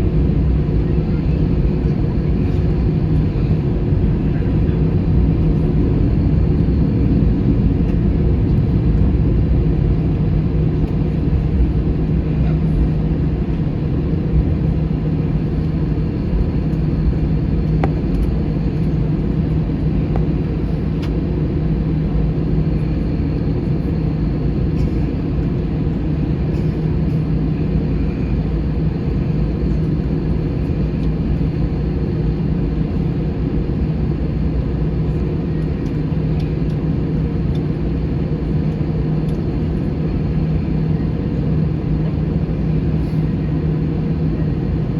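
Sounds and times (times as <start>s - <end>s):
airplane cabin rumble: 0.0s - 44.9s.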